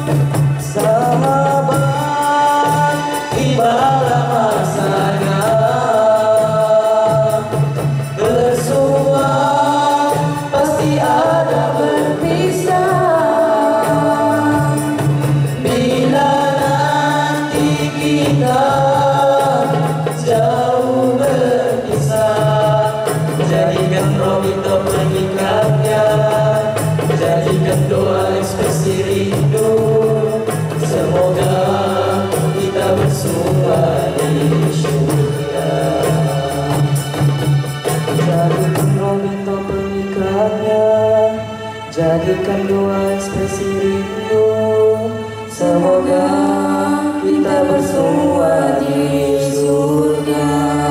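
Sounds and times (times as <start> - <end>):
boys singing through microphones: 0.0 - 50.9.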